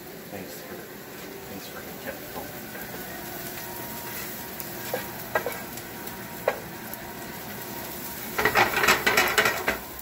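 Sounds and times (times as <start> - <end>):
onions sizzling in butter: 0.0 - 10.0.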